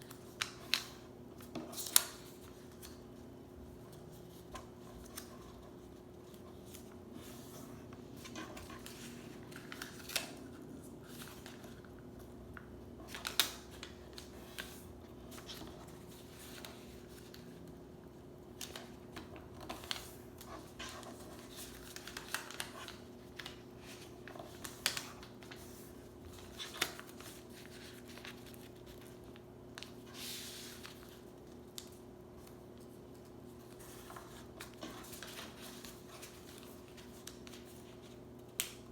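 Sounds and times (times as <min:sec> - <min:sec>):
paper crinkling and rustling: 0:00.0 - 0:17.8, 0:18.5 - 0:38.9.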